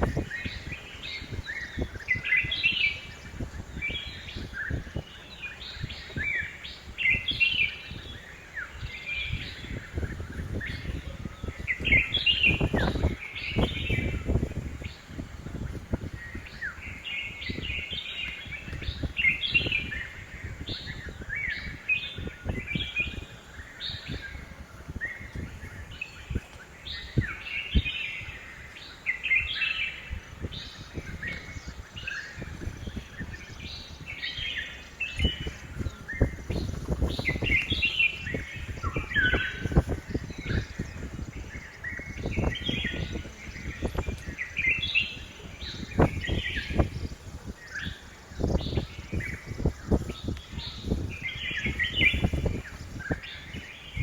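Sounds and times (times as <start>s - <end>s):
bulbuls chirping: 0.0s - 54.0s.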